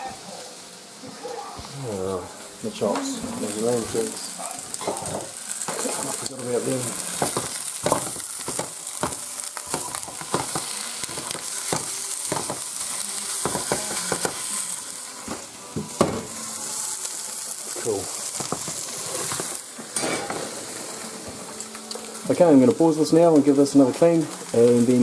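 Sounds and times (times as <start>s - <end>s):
meat sizzling in a frying pan: 0.0s - 25.0s.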